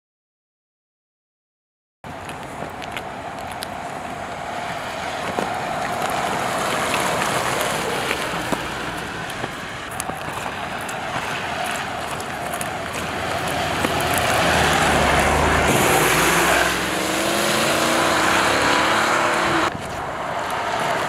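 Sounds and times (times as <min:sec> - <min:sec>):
tyre hiss on wet pavement: 0:02.1 - 0:21.0.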